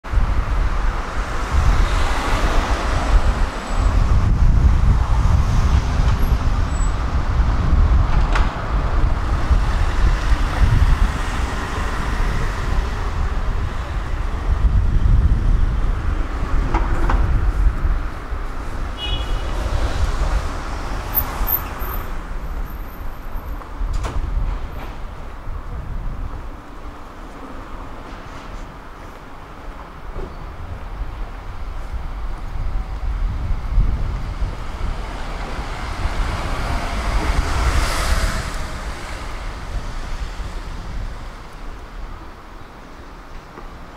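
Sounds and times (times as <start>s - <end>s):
low traffic rumble: 0.0s - 43.9s
vehicles passing: 0.1s - 43.9s.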